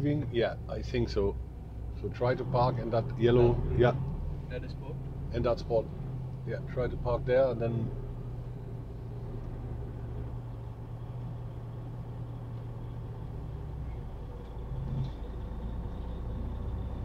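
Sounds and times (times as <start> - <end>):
truck diesel engine hum: 0.0 - 17.0.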